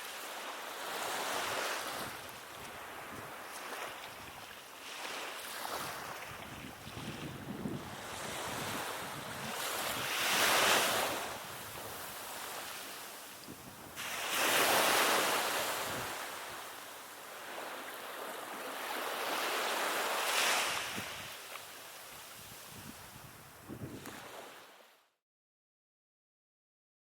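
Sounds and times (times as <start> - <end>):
waves breaking on shore: 0.0 - 25.0.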